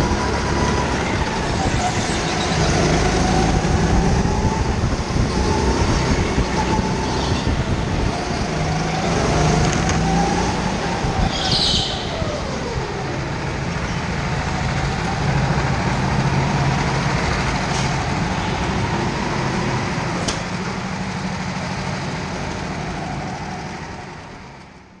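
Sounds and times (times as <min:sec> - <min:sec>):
go-kart engine drone: 0:00.0 - 0:25.0.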